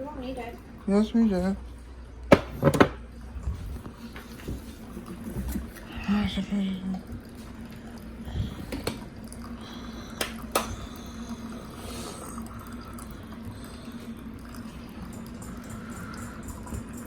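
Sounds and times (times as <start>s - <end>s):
coffee maker humming: 0.0s - 17.0s.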